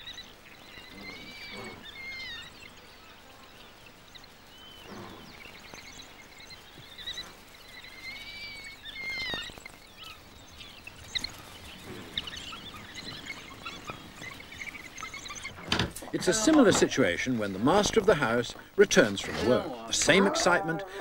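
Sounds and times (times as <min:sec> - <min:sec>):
wild dogs chirping calls: 0:00.0 - 0:21.0.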